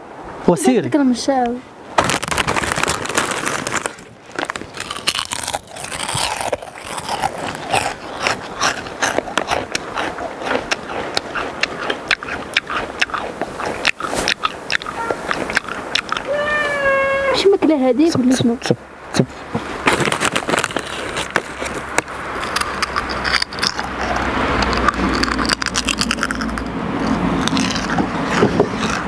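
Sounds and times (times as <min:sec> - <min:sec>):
person chewing loudly: 0:02.0 - 0:16.4, 0:19.9 - 0:29.0.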